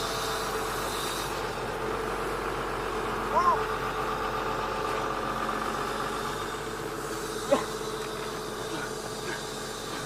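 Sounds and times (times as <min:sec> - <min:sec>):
excavator engine running: 0:00.0 - 0:10.0.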